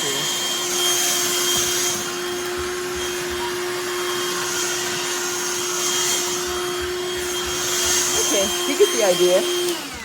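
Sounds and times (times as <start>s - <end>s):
handheld vacuum running: 0.0s - 10.0s.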